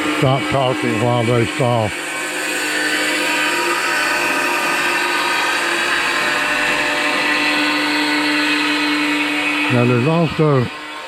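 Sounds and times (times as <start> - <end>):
power saw whining: 0.0 - 11.0
steady hum: 0.0 - 11.0.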